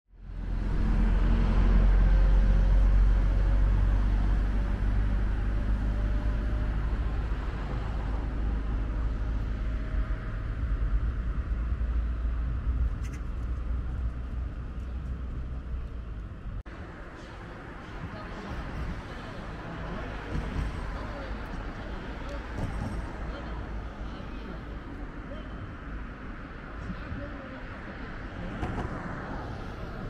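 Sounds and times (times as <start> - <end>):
road vehicle rumble: 0.1 - 30.0.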